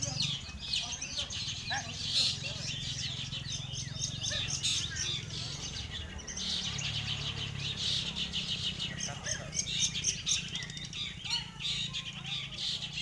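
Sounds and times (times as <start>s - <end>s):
caged birds chirping and trilling: 0.0s - 13.0s.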